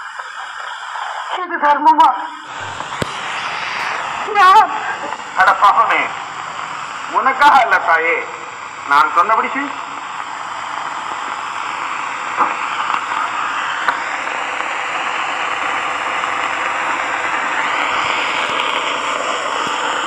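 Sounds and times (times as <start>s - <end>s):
steady hiss: 2.4s - 20.0s.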